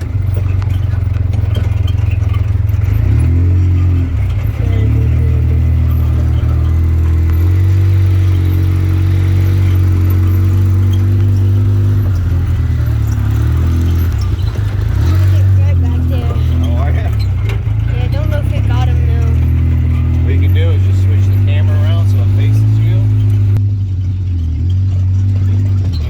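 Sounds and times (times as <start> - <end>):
off-road vehicle engine drone: 0.0 - 26.0.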